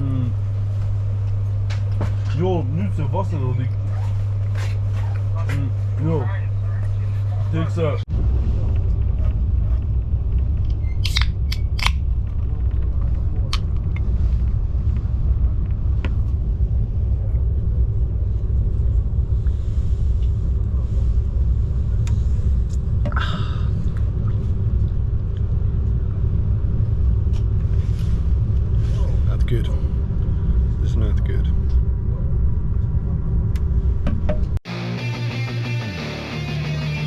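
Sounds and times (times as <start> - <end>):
vehicle interior rumble: 0.0 - 34.6.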